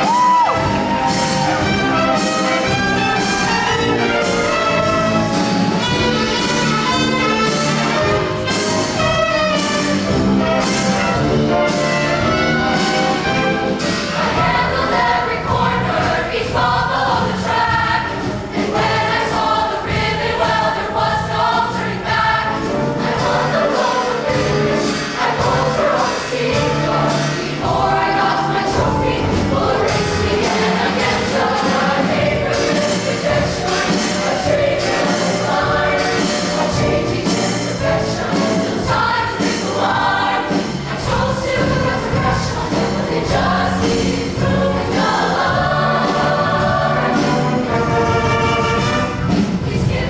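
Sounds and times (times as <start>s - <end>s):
choir singing: 0.0s - 50.0s
loud instrumental accompaniment: 0.0s - 50.0s.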